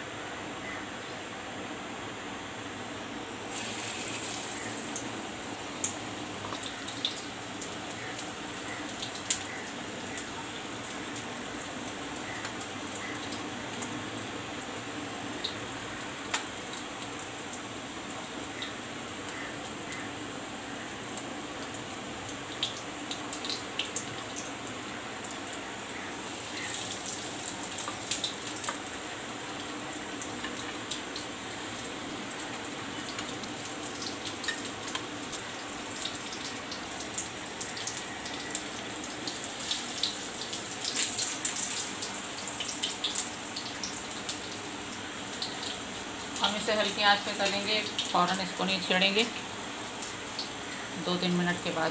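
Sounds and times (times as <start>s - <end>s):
oil crackling and popping: 3.4s - 14.0s, 15.4s - 48.3s
cutlets sizzling in hot oil: 3.4s - 51.9s.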